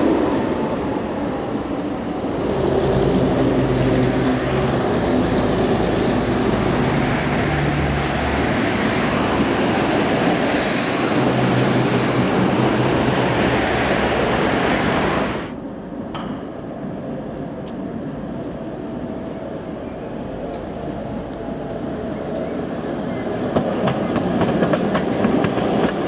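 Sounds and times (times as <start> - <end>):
tram wheels rumbling on rail: 0.0 - 16.1, 16.7 - 26.0.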